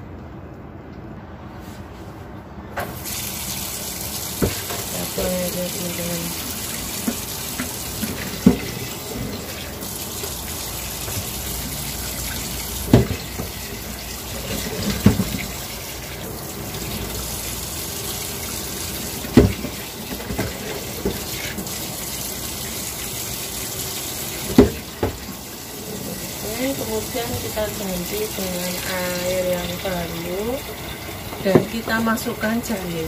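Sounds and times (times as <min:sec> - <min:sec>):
water splashing into a sink: 0:02.8 - 0:33.0.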